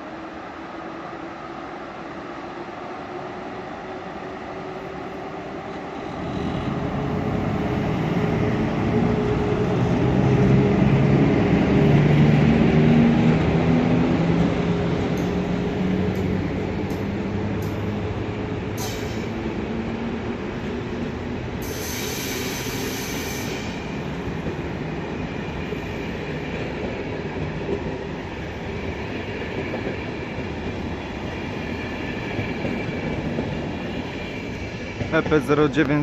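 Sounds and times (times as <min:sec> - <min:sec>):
electric train rolling slowly: 0:00.0 - 0:36.0.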